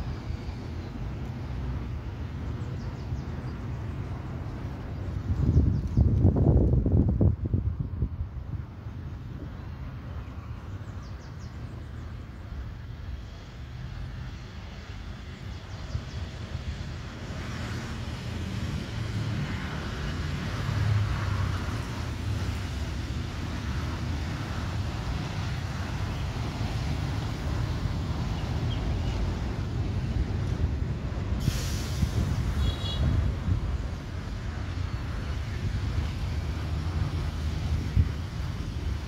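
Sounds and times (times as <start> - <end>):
distant jet engine hiss: 0.0 - 7.2, 7.8 - 39.0.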